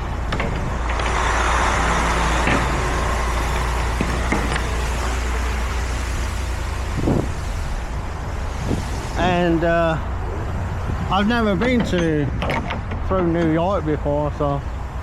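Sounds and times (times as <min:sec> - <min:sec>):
road and tyre hiss: 0:00.0 - 0:15.0
truck engine rumble: 0:00.0 - 0:15.0.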